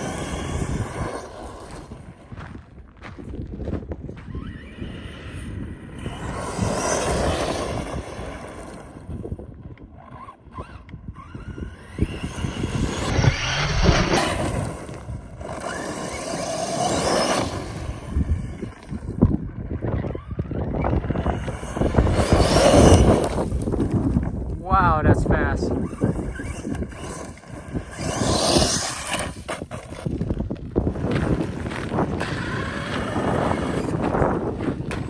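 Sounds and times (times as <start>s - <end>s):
rc truck electric motor: 0.0s - 2.1s, 4.3s - 24.6s, 25.6s - 35.0s
wind buffeting microphone: 0.0s - 35.0s.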